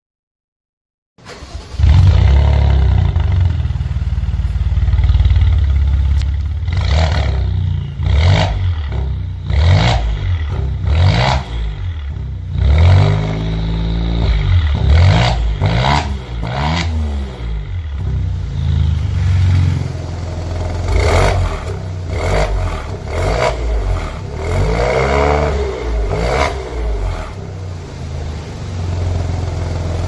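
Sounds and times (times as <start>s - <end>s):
car engine revving: 1.3s - 30.0s.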